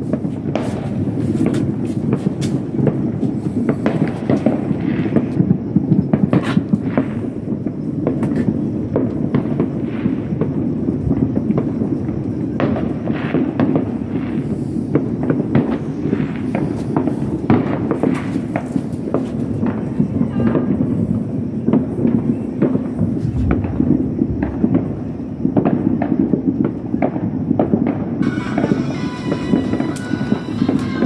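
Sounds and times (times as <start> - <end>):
fireworks cracks and bangs: 0.0 - 31.0.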